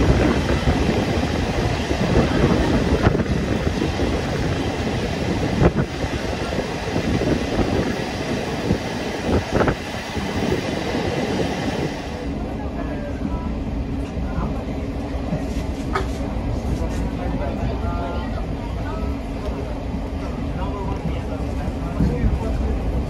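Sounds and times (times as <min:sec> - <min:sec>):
train coach running noise: 0:00.0 - 0:23.0.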